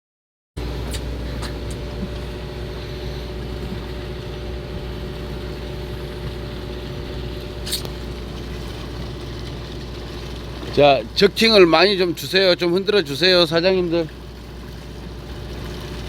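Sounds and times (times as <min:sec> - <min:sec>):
boat machinery humming: 0:00.6 - 0:16.0.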